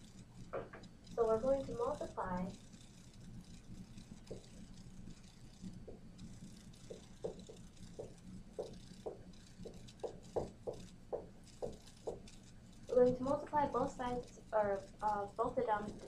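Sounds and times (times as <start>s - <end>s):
marker squeaking on whiteboard: 0.0s - 16.0s.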